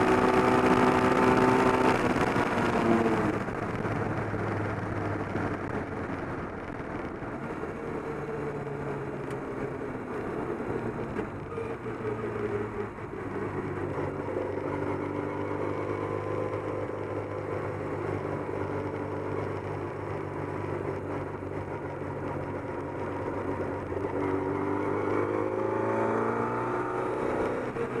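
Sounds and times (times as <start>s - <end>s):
car engine from inside cabin: 0.0s - 28.0s.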